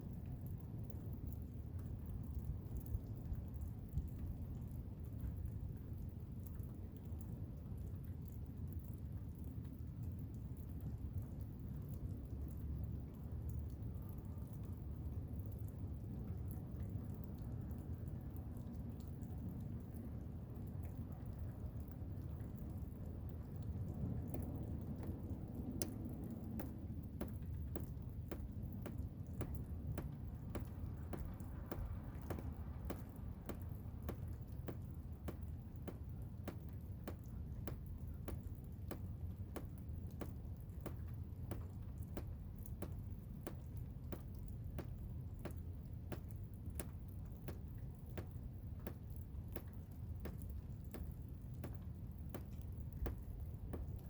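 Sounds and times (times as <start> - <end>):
sharp ticks or drips: 0.0 - 54.0.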